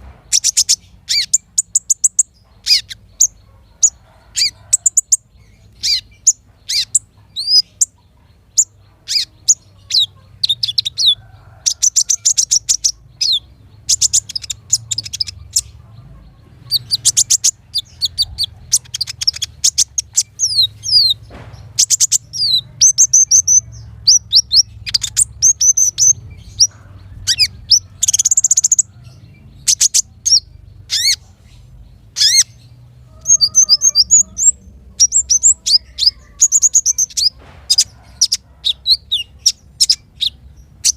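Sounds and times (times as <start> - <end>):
small songbirds singing: 0.0 - 40.9.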